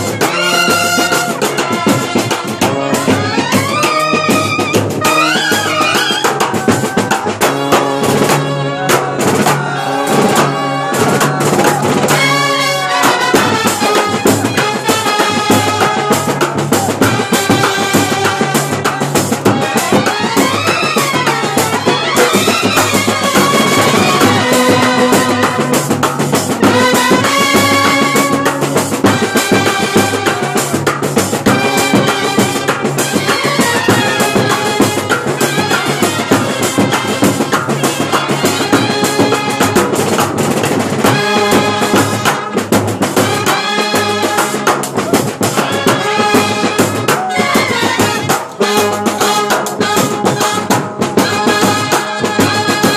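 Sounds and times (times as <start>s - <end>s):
brass playing melody: 0.0s - 52.9s
marching drums beating: 0.0s - 52.9s
trumpets and reed horns: 0.0s - 52.9s.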